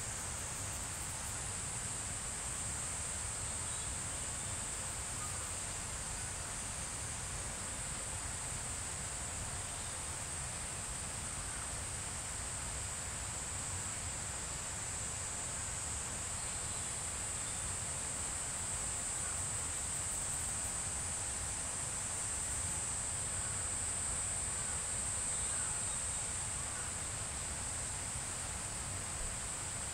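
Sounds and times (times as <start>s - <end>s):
shrill insect chorus: 0.0s - 7.3s, 8.2s - 29.9s.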